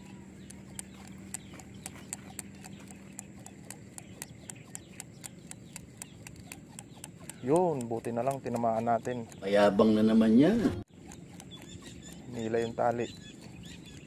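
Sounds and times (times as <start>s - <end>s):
rhythmic sharp clicking: 0.0s - 9.9s, 10.9s - 14.0s
faint hum: 0.0s - 14.0s.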